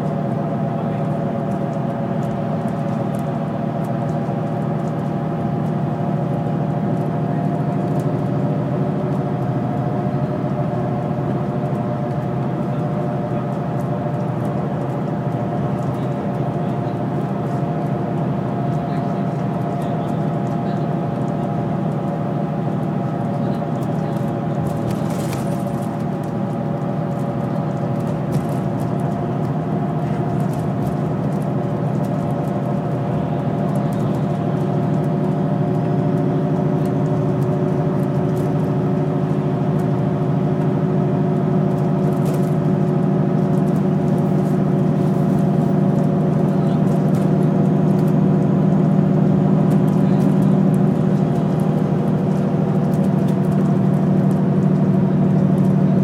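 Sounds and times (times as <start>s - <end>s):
bus engine and tyre drone: 0.0s - 56.0s.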